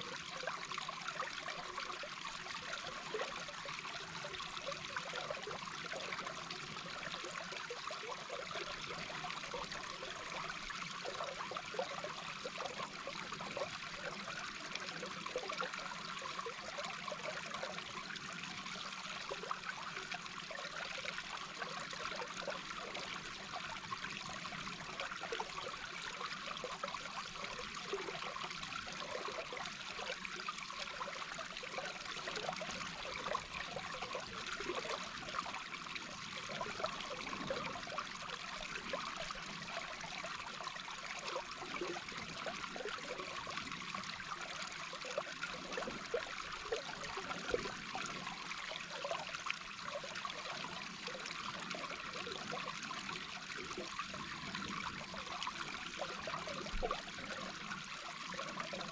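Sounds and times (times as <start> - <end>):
underwater brook bubbling: 0.0 - 58.9.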